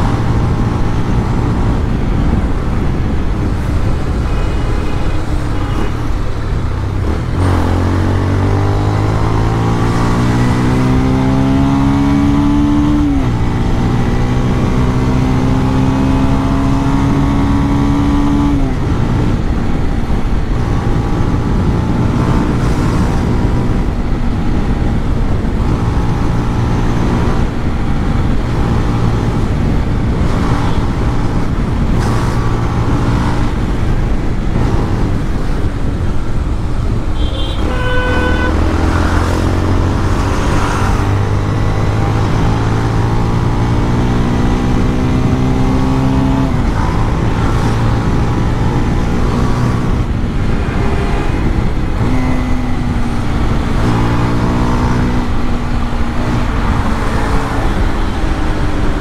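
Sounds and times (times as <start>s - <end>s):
motorcycle engine at speed: 0.0s - 59.0s
wind and road noise: 0.0s - 59.0s.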